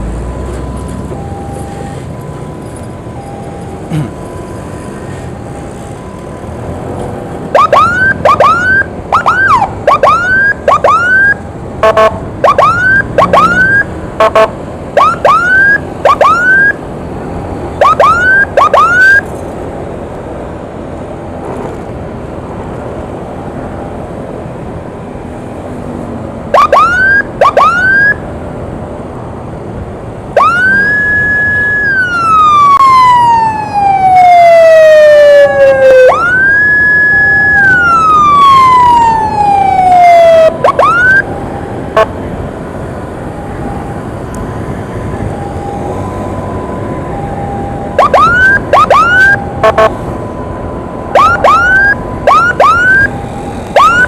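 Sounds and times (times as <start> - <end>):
emergency vehicle siren: 0.0 - 54.0
traffic and engine noise: 0.0 - 54.0.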